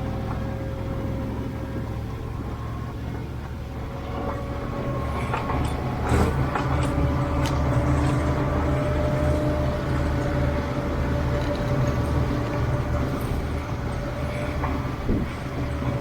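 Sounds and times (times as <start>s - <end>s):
tractor diesel engine working: 0.0s - 16.0s.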